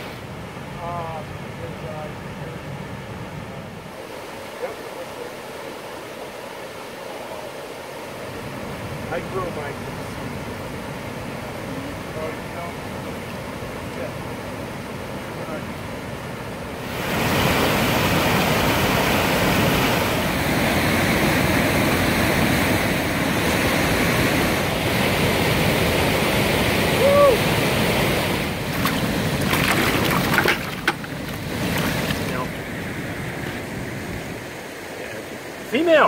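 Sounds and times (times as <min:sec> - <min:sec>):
whitewater rushing in stream rapids: 0:00.0 - 0:36.0.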